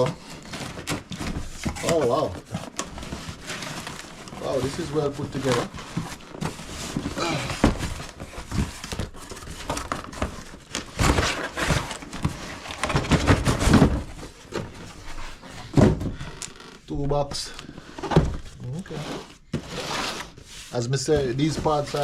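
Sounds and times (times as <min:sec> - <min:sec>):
cardboard box rustling and scraping: 0:00.0 - 0:16.2, 0:17.8 - 0:22.0.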